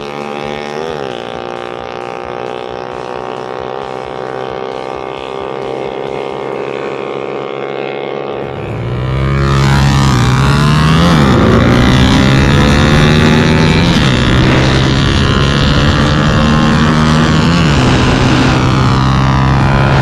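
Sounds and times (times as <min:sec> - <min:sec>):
high engine drone: 0:00.0 - 0:20.0
motorcycle engine revving through gears: 0:00.0 - 0:20.0.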